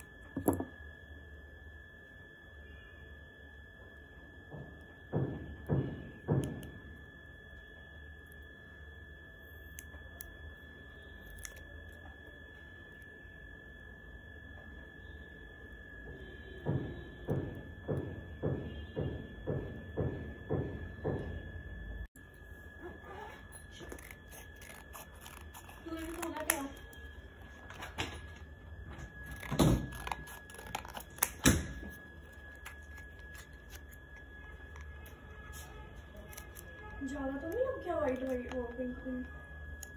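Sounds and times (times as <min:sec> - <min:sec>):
low hum: 0:00.0 - 0:39.9
steady high-pitched tone: 0:00.0 - 0:39.9.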